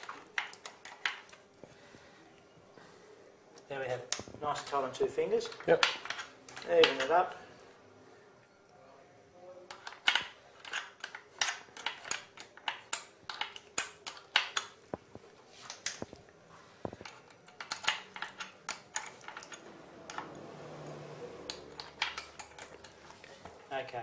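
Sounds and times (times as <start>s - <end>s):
soft steady rustle: 0.0s - 20.5s, 21.8s - 24.0s.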